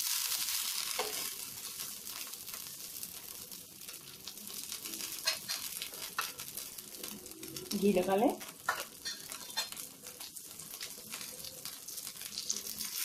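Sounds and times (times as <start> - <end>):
flatbread sizzling in ghee: 0.0 - 13.0.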